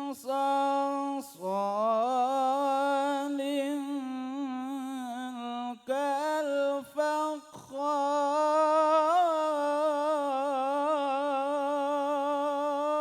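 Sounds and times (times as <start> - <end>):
person reciting in melodic chant: 0.0 - 13.0.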